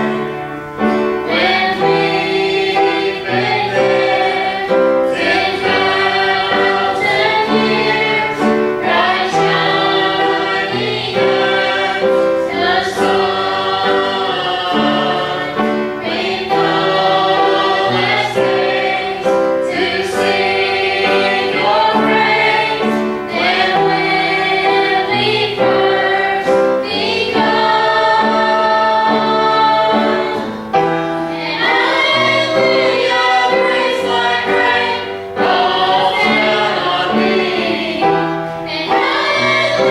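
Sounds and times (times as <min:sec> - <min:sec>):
gospel choir singing: 0:00.0 - 0:39.9
piano accompaniment: 0:00.0 - 0:39.9.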